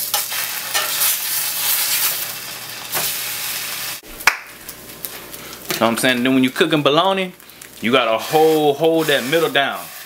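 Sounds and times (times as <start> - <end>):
meat sizzling in a skillet: 0.0 - 5.7, 7.4 - 10.0.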